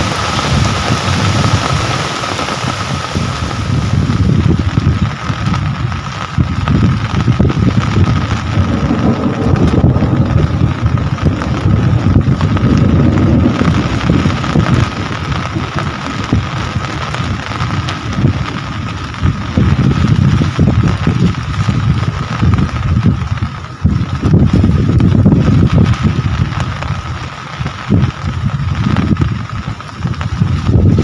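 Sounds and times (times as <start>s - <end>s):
heavy rain falling: 0.0s - 31.0s
low rumble: 2.8s - 31.0s.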